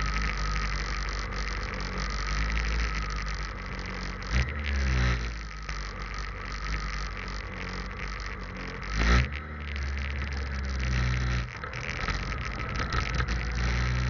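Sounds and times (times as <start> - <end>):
muffled motorcycle engine: 0.0 - 14.0.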